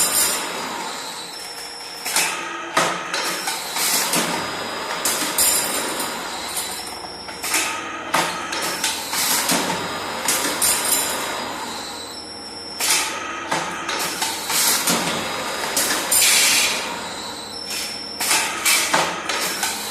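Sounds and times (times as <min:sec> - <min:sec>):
steady machine noise: 0:00.0 - 0:19.9.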